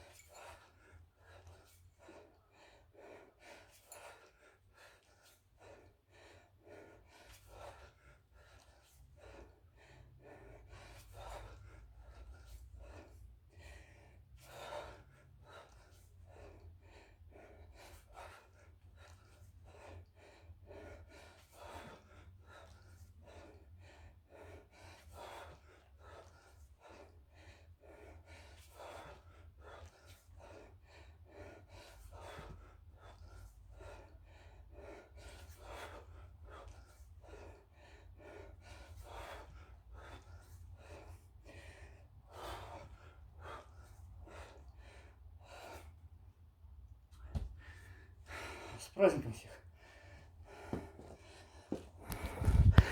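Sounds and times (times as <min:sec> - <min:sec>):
man breathing hard: 0:00.2 - 0:46.1, 0:47.2 - 0:52.9.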